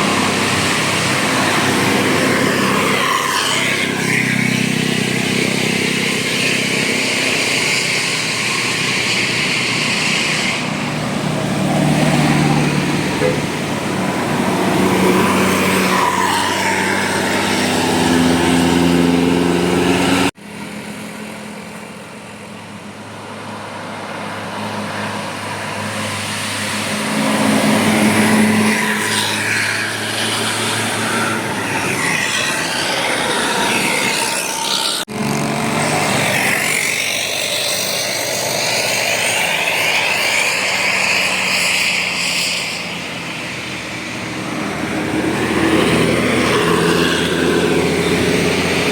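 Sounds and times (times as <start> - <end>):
bus diesel engines running hard: 0.0 - 48.9.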